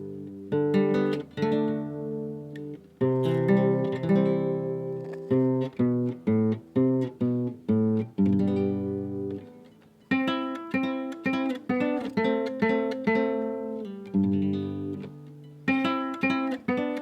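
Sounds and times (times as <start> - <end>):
solo guitar melody: 0.0 - 17.0.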